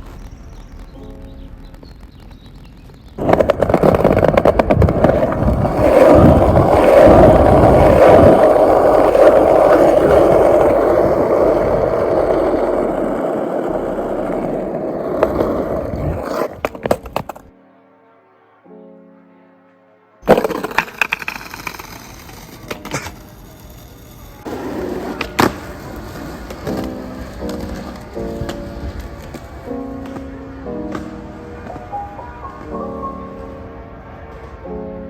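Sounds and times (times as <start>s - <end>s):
skateboard wheels rolling: 0.0s - 17.5s, 20.2s - 35.0s
skateboard clacks: 1.9s - 17.5s, 20.3s - 32.8s.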